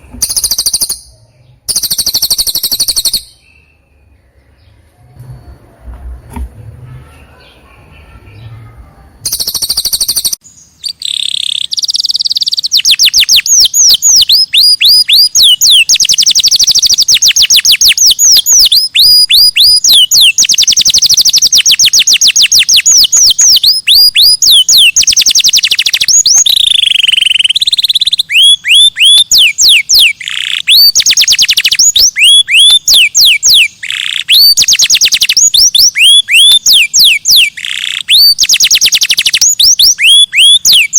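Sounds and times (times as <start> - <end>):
songbird trilling whistles: 0.0 - 4.0, 9.3 - 40.9.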